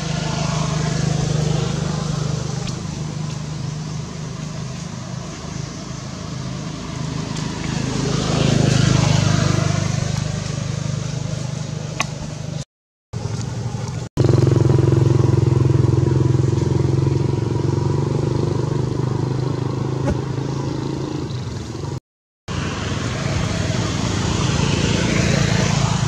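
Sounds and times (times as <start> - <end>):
vehicle engine running: 0.0 - 12.6, 13.2 - 26.0.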